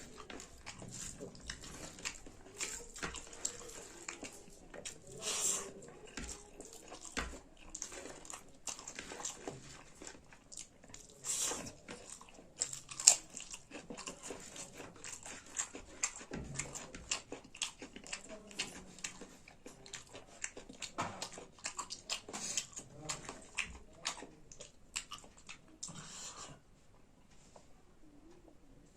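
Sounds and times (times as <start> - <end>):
person chewing food: 0.0 - 26.6.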